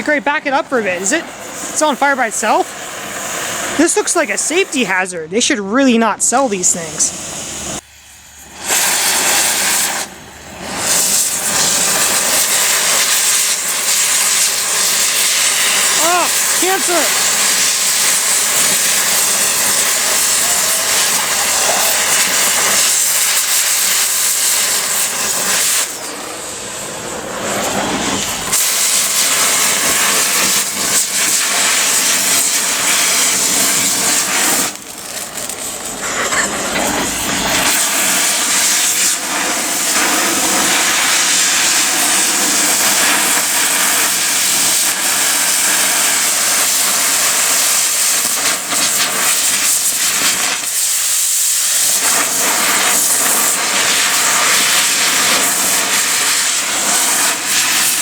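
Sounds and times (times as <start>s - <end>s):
flame hissing: 0.0s - 5.1s, 6.2s - 58.0s.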